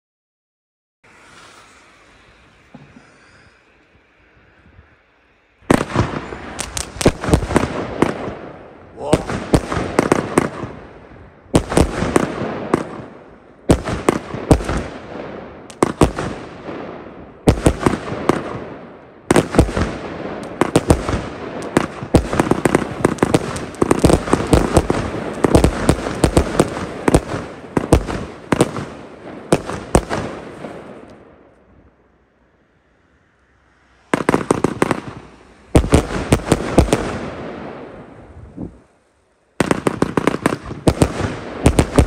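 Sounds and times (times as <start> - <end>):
firework bangs: 5.6 - 32.0, 33.8 - 39.0, 39.6 - 42.0.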